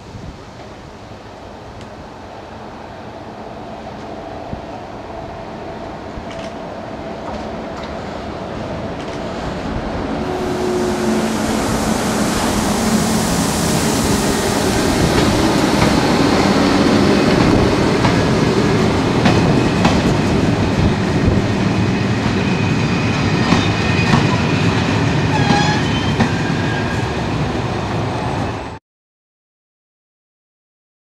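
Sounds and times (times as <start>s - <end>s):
train wheels rumbling on rail: 2.7s - 28.8s.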